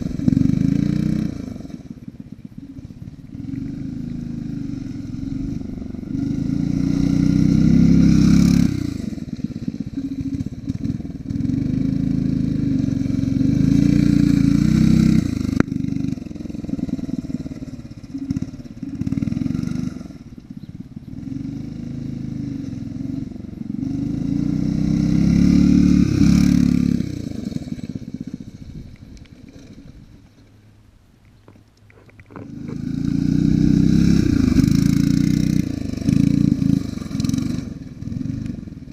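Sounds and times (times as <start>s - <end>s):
go-kart engine revving: 0.0s - 30.4s, 32.4s - 38.9s.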